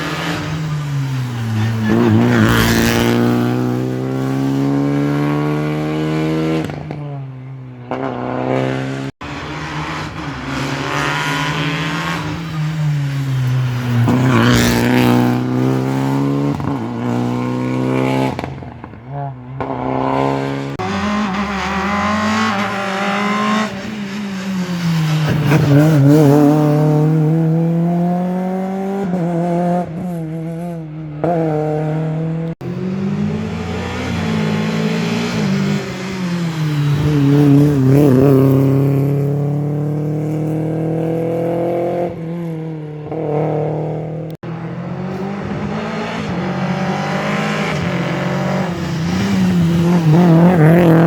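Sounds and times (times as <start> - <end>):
rally car engine passing at speed: 0.0 - 51.0.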